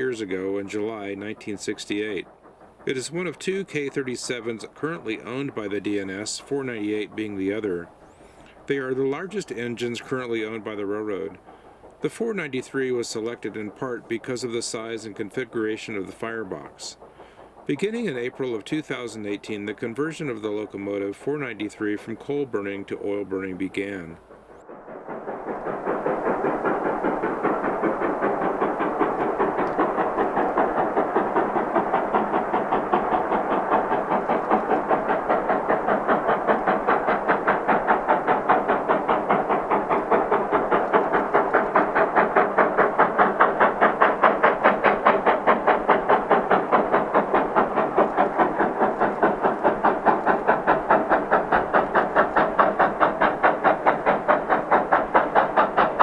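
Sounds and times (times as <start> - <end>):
steam train chugging: 0.0 - 56.0.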